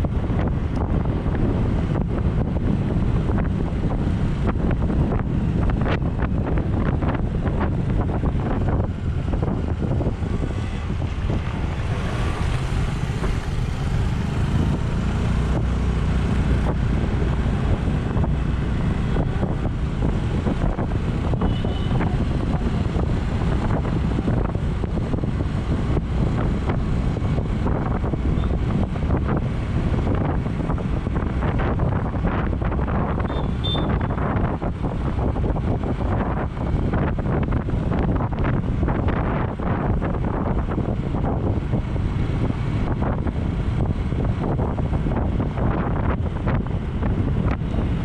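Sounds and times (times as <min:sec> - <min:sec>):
vehicle running: 0:00.0 - 0:48.0
wind buffeting microphone: 0:00.0 - 0:48.0.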